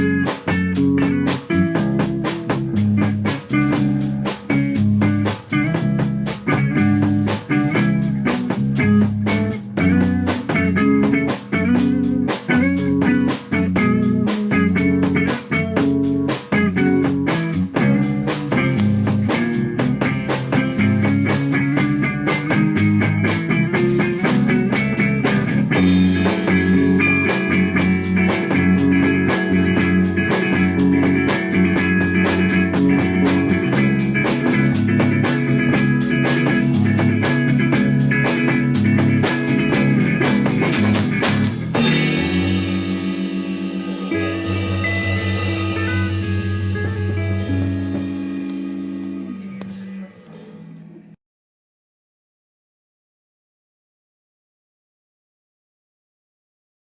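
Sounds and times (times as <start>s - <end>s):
rock band playing: 0.0s - 50.0s.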